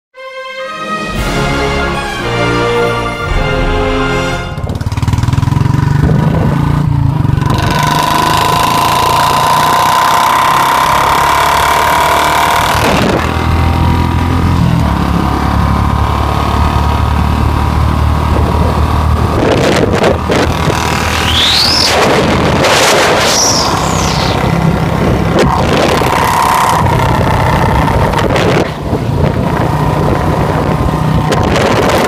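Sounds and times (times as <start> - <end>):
motorcycle engine running: 3.3 - 22.6, 23.3 - 32.0.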